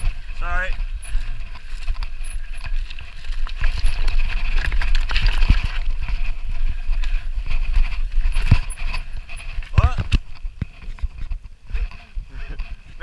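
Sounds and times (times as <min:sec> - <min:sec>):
bike clattering over rocks: 0:00.0 - 0:12.0
wind rumble on microphone: 0:00.0 - 0:13.0.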